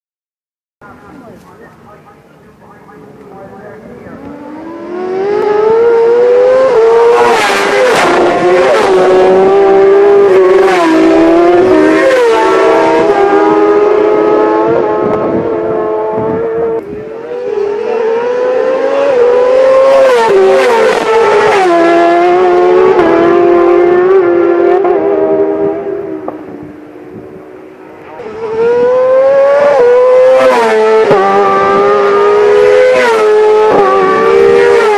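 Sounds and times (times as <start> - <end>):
racing motorcycles revving: 0.8 - 34.9.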